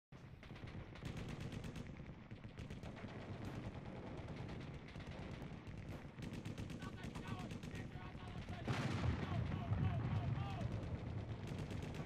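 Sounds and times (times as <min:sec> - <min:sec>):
rapid machine-gun fire: 0:00.3 - 0:12.0.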